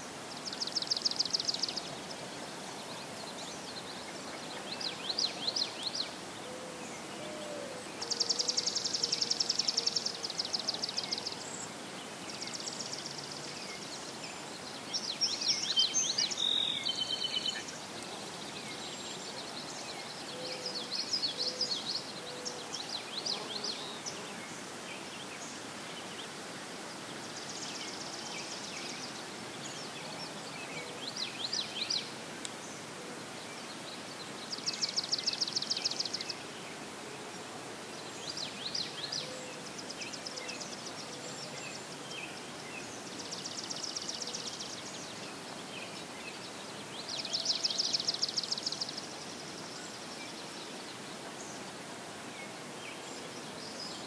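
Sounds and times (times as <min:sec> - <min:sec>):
songbirds singing: 0:00.0 - 0:54.0
steady outdoor hiss: 0:00.0 - 0:54.0.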